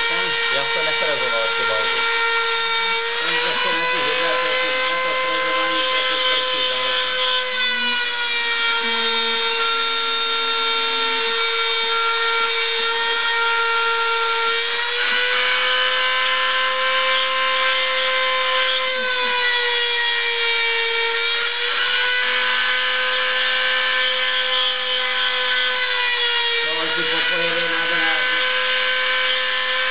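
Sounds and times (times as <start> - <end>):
router spindle whining: 0.0 - 29.9.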